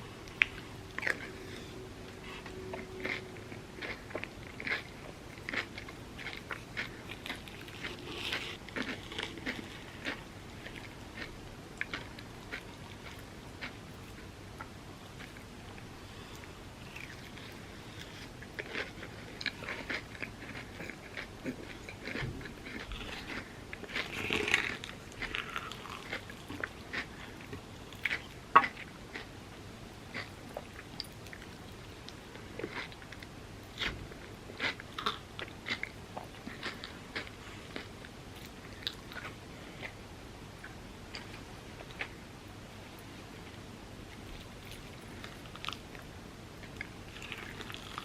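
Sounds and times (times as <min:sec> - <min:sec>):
chewing: 0:00.2 - 0:29.3, 0:30.1 - 0:40.0, 0:44.4 - 0:46.0, 0:46.6 - 0:48.0.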